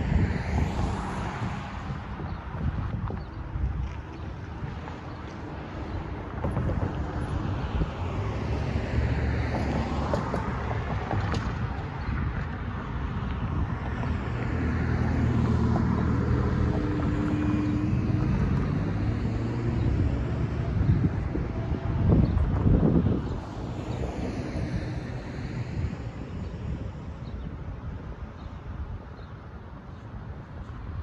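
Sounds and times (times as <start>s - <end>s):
cars passing: 0.0s - 31.0s
wind buffeting microphone: 0.0s - 31.0s.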